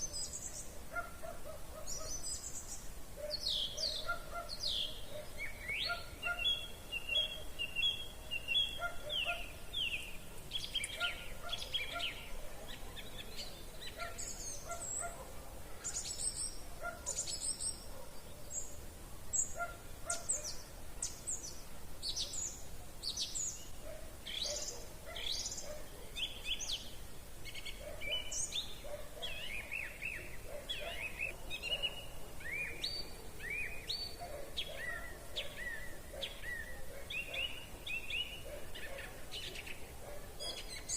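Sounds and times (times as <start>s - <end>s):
faint steady hiss: 0.0s - 40.9s
songbirds chirping and whistling: 0.0s - 40.9s.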